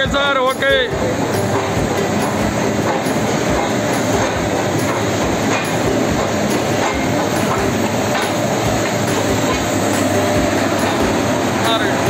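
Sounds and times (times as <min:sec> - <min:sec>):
steam locomotive hissing and rumbling: 0:00.0 - 0:12.0.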